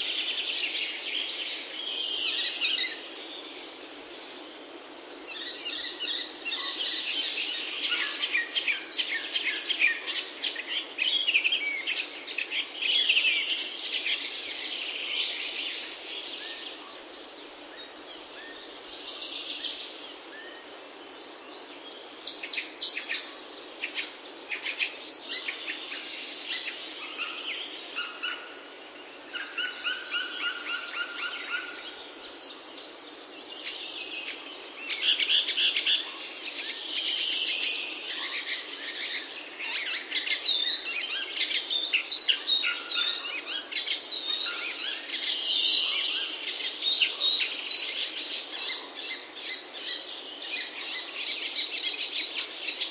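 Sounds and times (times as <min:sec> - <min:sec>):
low forest hiss: 0:00.0 - 0:52.9
songbirds singing and chirping: 0:00.0 - 0:52.9.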